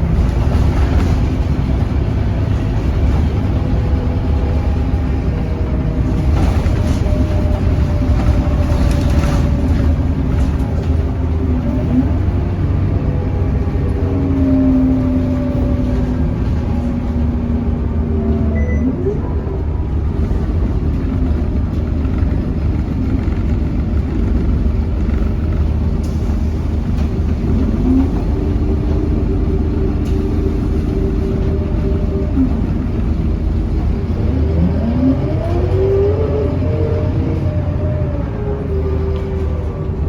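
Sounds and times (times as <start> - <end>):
bus engine rumbling: 0.0 - 40.0.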